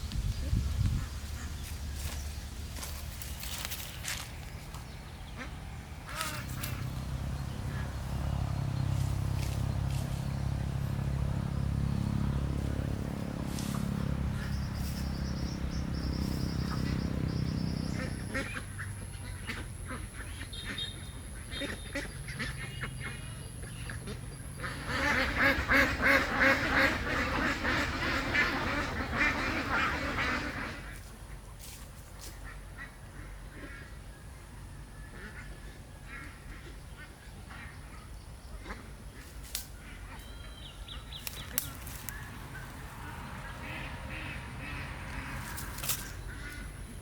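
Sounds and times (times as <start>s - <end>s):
low motor rumble: 0.0s - 31.7s, 32.8s - 47.0s
ducks quacking: 0.9s - 31.4s, 32.2s - 34.1s, 35.0s - 47.0s.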